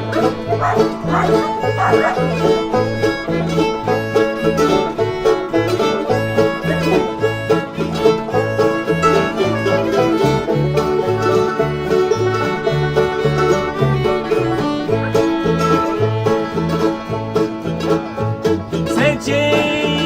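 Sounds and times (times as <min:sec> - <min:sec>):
bluegrass string band: 0:00.0 - 0:20.0.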